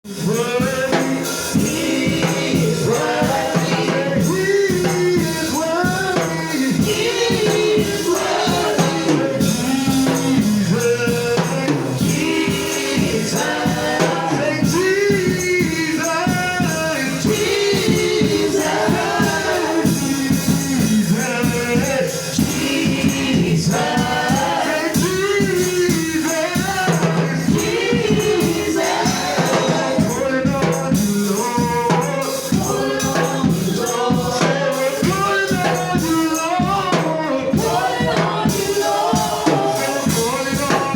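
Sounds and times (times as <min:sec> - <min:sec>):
congregation singing gospel: 0:00.0 - 0:40.9
rattling hand percussion: 0:00.2 - 0:40.9.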